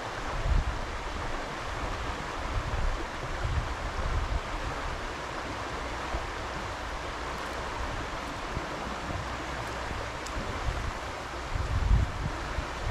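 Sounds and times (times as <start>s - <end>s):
river water rushing: 0.0s - 12.9s
wind buffeting microphone: 0.2s - 12.9s.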